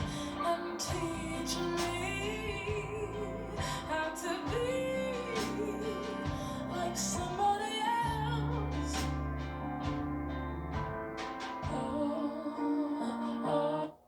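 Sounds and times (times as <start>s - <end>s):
woman singing soul ballad: 0.0s - 10.0s, 11.6s - 14.0s
sustained chords and bass: 0.0s - 11.9s.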